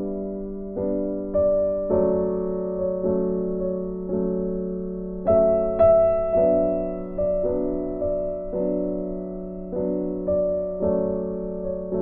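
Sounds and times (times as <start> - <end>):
slow gentle piano: 0.0 - 12.0.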